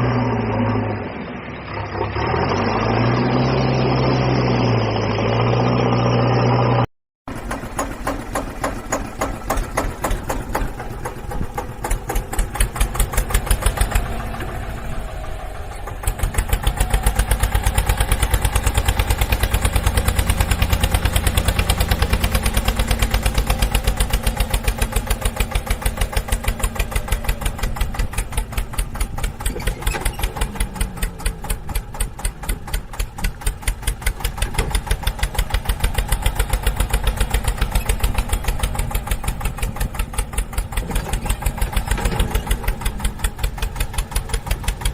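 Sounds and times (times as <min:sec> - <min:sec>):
engine pulsing beat: 0:07.3 - 0:44.9.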